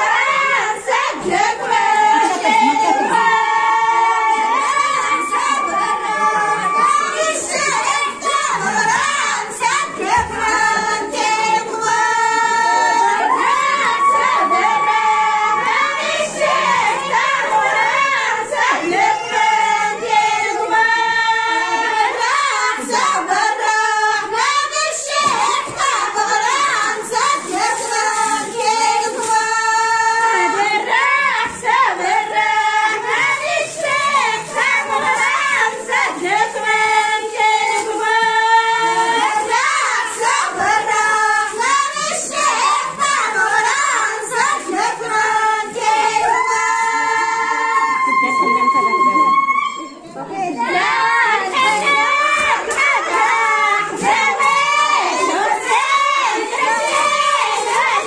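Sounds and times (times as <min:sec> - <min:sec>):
women singing together: 0:00.0 - 0:58.0.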